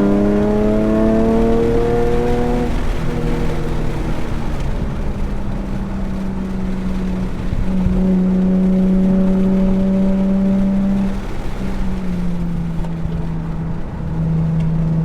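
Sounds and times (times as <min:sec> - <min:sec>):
car engine under load: 0:00.0 - 0:15.0.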